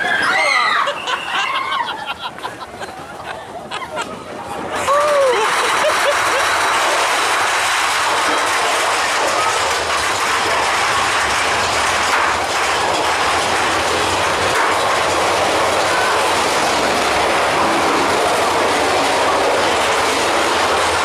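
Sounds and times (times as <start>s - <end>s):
roller coaster cars on track: 0.0s - 21.0s.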